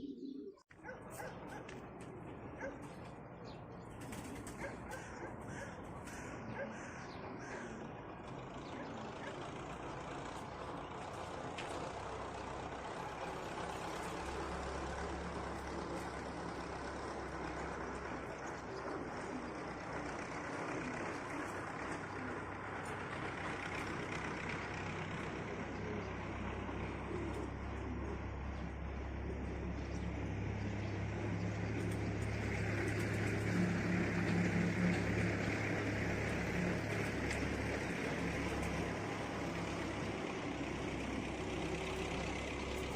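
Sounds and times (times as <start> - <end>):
vehicle engine rumbling: 0.6 - 42.9.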